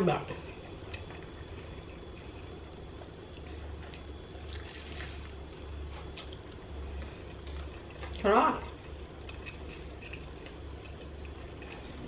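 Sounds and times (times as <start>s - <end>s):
steady low hum: 0.0s - 12.0s
person chewing: 0.4s - 12.0s.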